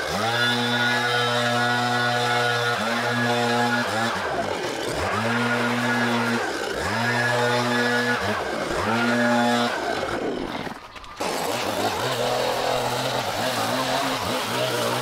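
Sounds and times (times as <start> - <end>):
leaf blower engine revving: 0.0 - 15.0
string trimmer engine running: 0.0 - 15.0.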